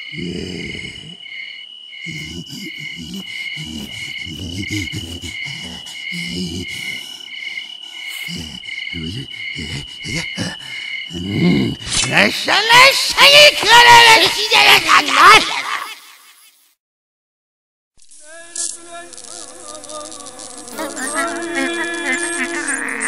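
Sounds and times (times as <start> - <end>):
cricket chirping in pulses: 0.0 - 16.7, 18.0 - 23.0
high insect trill: 0.0 - 16.7, 18.0 - 23.0.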